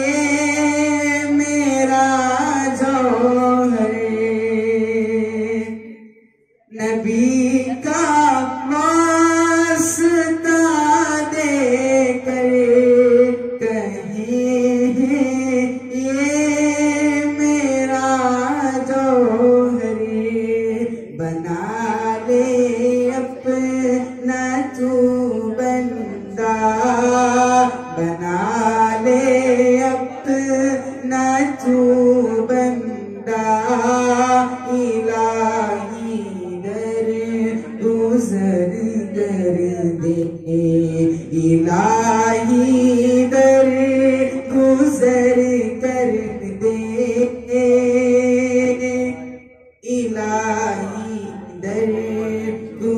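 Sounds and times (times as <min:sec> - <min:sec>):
boy singing through a microphone: 0:00.0 - 0:05.9, 0:06.7 - 0:52.9.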